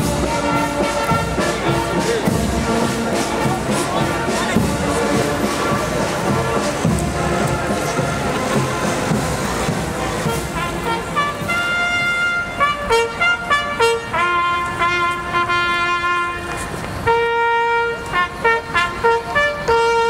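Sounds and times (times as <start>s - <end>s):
solo brass instrument playing: 0.0s - 20.0s.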